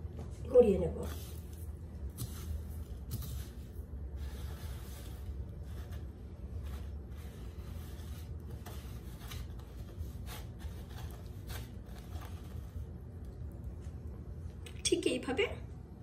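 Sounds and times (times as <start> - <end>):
steady low hum: 0.0 - 16.0
breadcrumbs scraping and rustling: 0.9 - 13.9.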